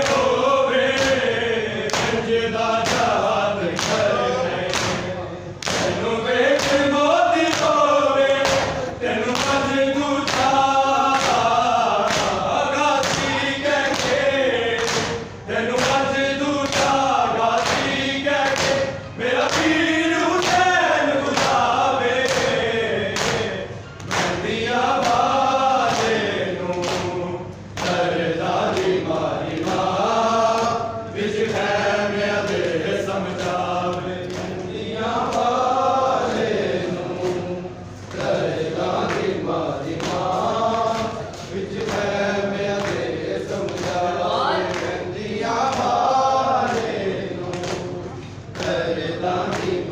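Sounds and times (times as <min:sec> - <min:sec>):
men chanting a lament: 0:00.0 - 0:49.9.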